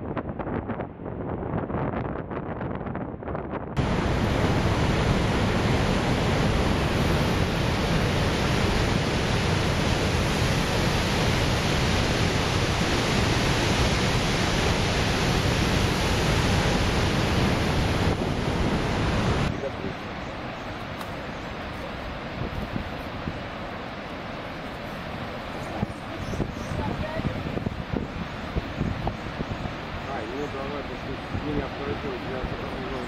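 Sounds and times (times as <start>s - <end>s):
waterfall roaring: 3.8s - 33.0s.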